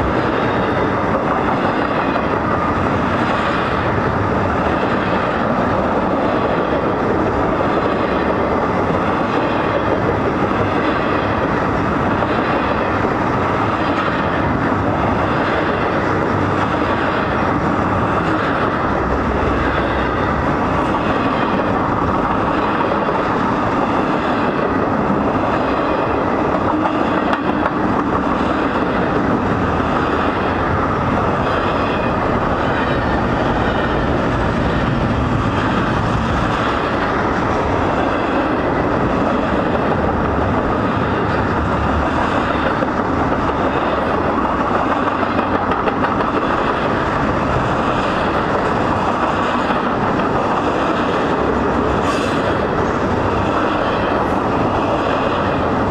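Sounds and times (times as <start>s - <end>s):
freight train wheels rumbling on rails: 0.0s - 55.9s.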